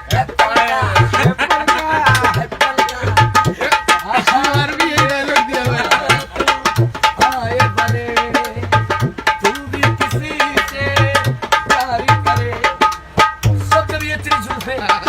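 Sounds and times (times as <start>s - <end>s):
hand-drum beats: 0.0s - 15.0s
sharp clicking percussion: 0.0s - 15.0s.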